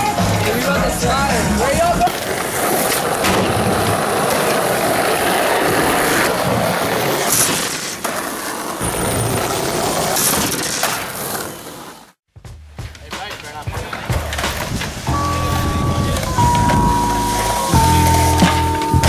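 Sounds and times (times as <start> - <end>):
skateboard clacks: 0.0 - 12.0, 12.8 - 19.0
skateboard wheels rolling: 0.0 - 12.2, 12.8 - 19.0.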